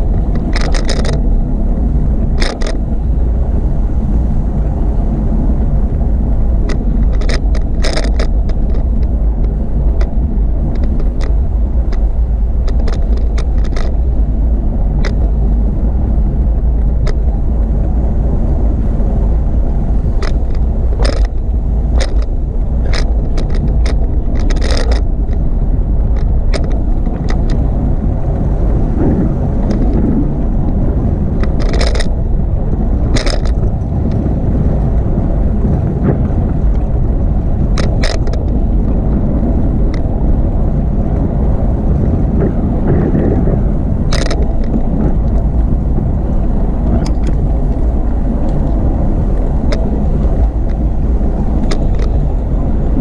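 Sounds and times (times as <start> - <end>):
bike clicks and rattles: 0.0 - 3.5, 5.5 - 53.0
tyre and road noise: 0.0 - 53.0
wind buffeting microphone: 0.0 - 53.0.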